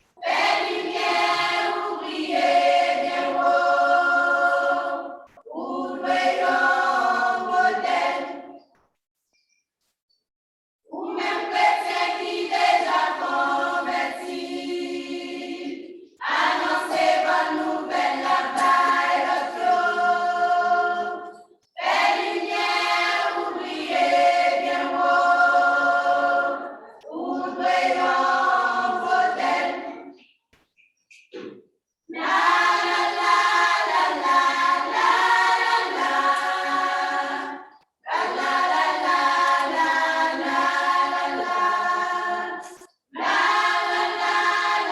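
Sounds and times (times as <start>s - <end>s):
choir singing a cappella: 0.0s - 8.8s, 10.8s - 30.3s, 32.1s - 44.9s.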